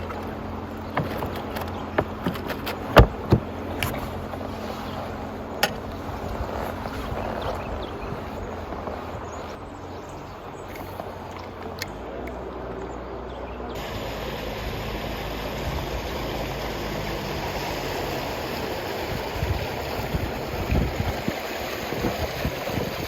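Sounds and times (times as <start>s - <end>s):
water rushing: 0.0s - 23.0s
wind: 0.0s - 23.0s.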